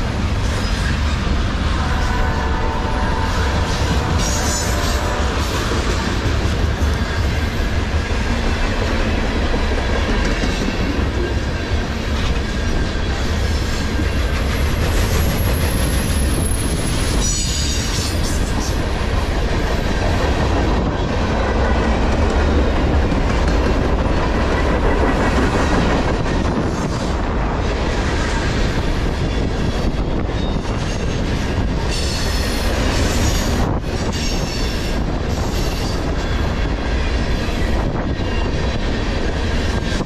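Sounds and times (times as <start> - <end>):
freight train wheels rumbling on rail: 0.0 - 40.0.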